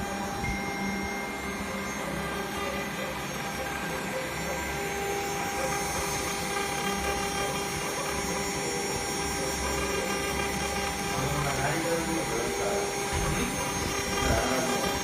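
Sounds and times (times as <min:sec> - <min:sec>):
engraving machine spindle whine: 0:00.0 - 0:15.0.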